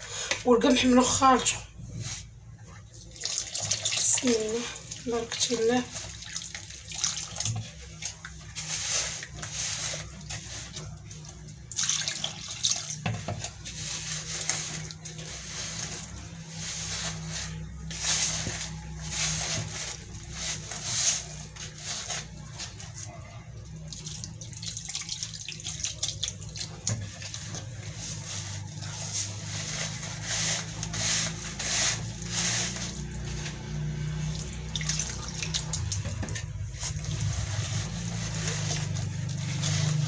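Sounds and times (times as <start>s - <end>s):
whisk stirring wet batter: 0.0s - 40.0s.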